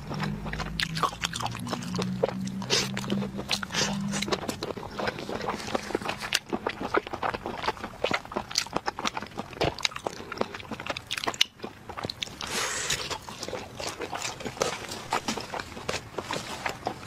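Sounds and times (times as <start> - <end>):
chewing and crunching food: 0.0 - 17.0.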